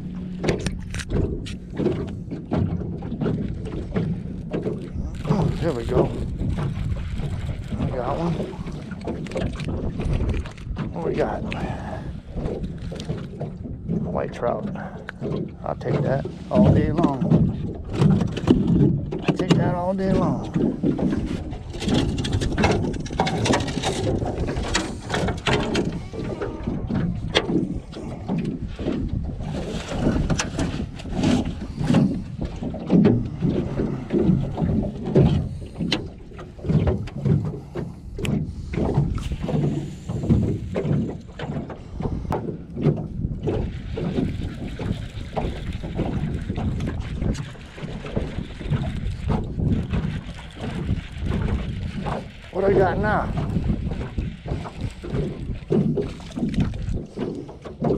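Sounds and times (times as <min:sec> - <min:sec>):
waves slapping boat hull: 0:00.0 - 0:57.9
wind buffeting microphone: 0:00.0 - 0:57.9.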